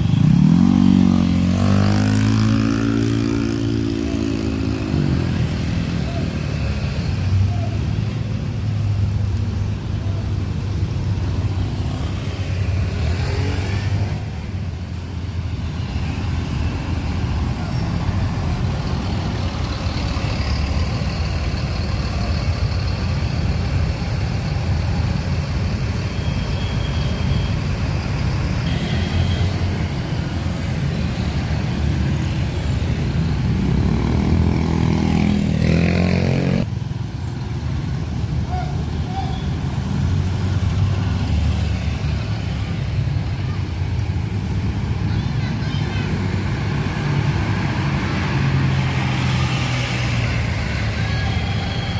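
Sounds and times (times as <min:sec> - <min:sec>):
traffic noise: 0:00.0 - 0:51.9.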